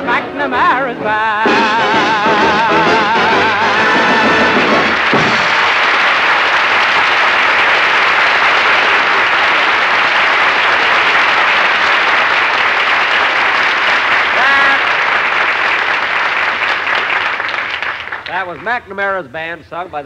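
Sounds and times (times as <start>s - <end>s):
audience applauding: 1.8s - 18.8s.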